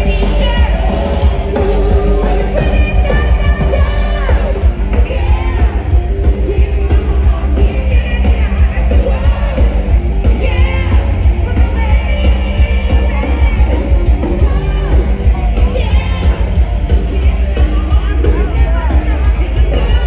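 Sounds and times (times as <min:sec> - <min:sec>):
band music with singer: 0:00.0 - 0:20.0.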